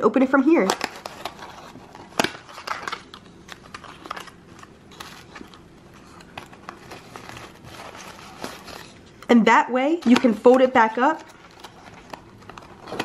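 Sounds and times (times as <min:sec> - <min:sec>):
cardboard rustling: 0:00.6 - 0:09.0, 0:10.0 - 0:13.0.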